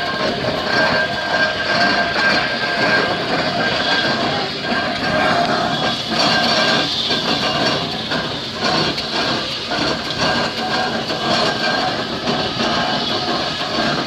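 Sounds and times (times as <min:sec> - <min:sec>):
rhythmic clattering knocks: 0:00.0 - 0:14.0
steam engine running: 0:00.0 - 0:14.0.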